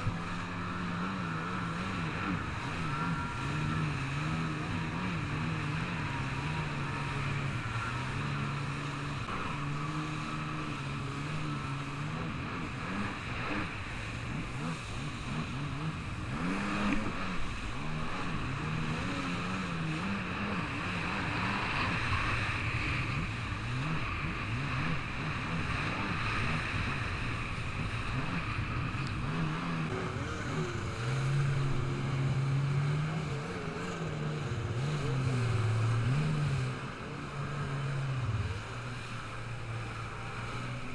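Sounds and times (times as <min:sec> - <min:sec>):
hiss of water and wind: 0:00.0 - 0:40.9
jet ski engine revving: 0:00.0 - 0:40.9.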